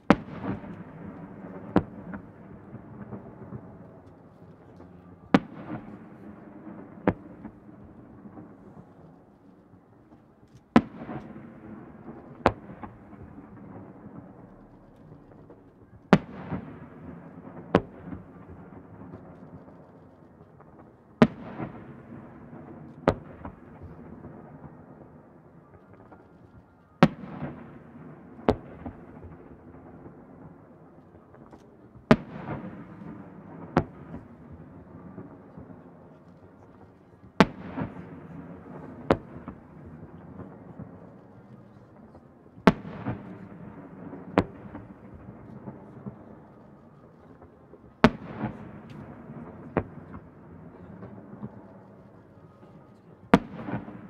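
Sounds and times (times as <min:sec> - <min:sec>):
echo rolling across a lake: 0:00.0 - 0:54.0.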